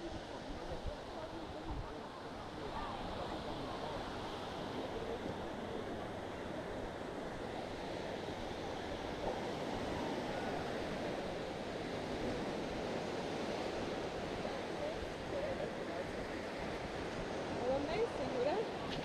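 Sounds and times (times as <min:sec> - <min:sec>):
small waves breaking on shore: 0:00.0 - 0:19.0.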